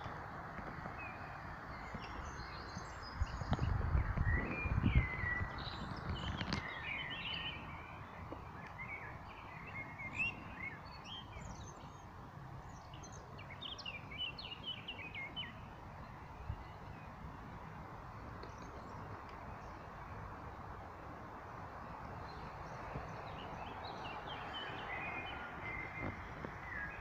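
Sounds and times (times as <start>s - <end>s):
songbirds chirping and warbling: 0.0s - 27.0s.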